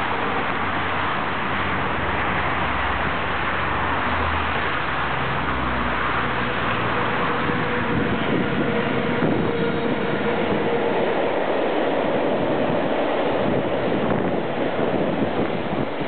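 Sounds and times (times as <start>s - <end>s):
low drone: 0.0s - 15.9s
heavy freight train rumbling: 0.0s - 16.0s.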